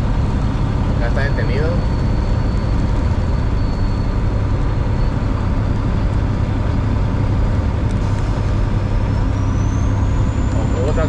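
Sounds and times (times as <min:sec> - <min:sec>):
road and wind noise: 0:00.0 - 0:11.0
truck diesel engine drone: 0:00.0 - 0:11.0.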